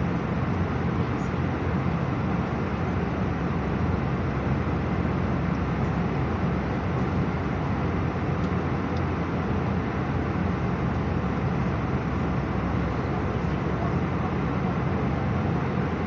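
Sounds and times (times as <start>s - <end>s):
airplane cabin engine hum: 0.0s - 16.0s.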